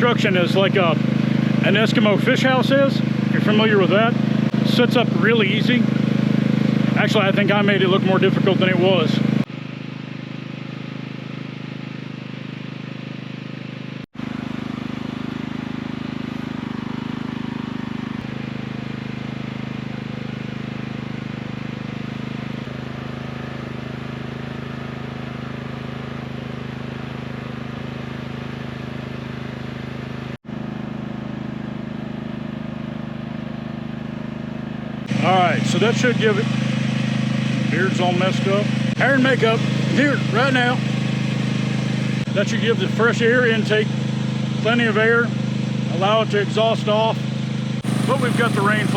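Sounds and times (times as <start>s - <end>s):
generator engine hum: 0.0s - 48.9s.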